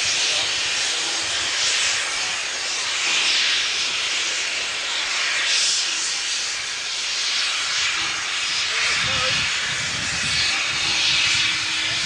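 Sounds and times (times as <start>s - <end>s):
steam locomotive venting steam: 0.0s - 12.0s.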